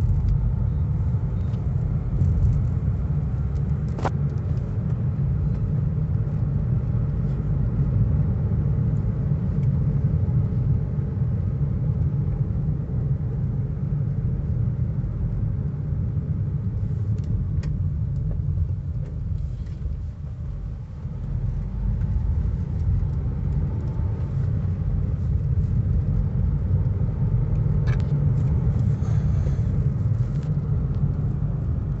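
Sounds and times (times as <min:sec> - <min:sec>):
car cabin road rumble: 0:00.0 - 0:32.0.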